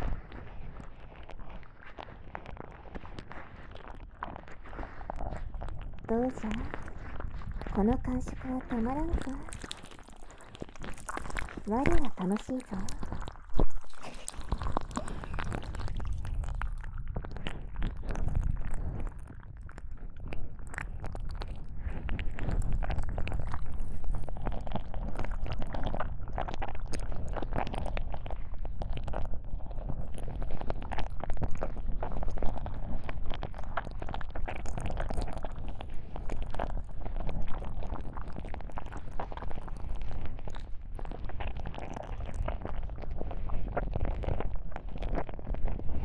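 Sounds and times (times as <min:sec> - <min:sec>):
ear-pick crackling and rubbing: 0:00.0 - 0:46.0
low rumble: 0:00.0 - 0:46.0.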